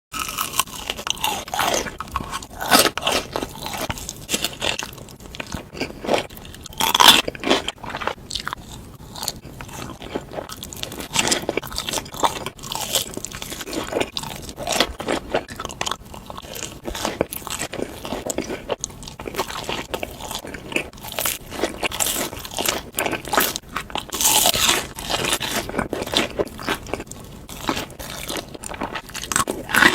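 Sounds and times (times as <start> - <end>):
crunchy fried chicken chewing: 0.1 - 29.9.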